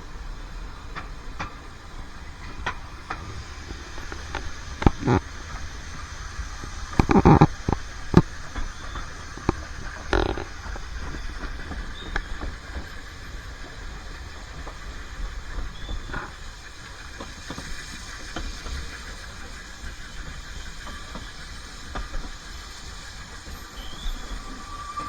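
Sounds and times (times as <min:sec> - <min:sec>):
steam train rumble and hiss: 0:00.0 - 0:25.0.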